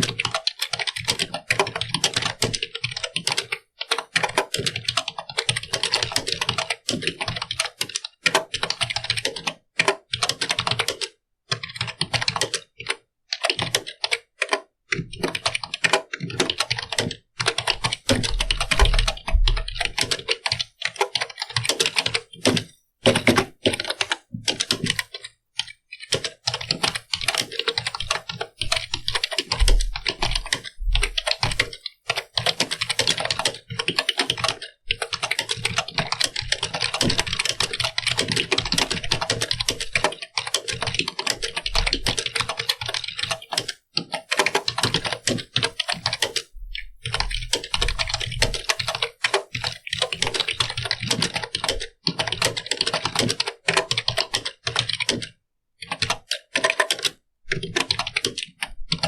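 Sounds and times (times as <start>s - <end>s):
keyboard typing clicks: 0.1s - 59.0s.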